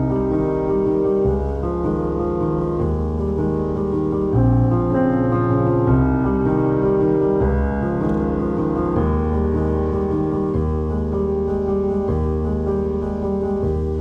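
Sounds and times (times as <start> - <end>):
keyboard playing sustained chords: 0.0 - 14.0.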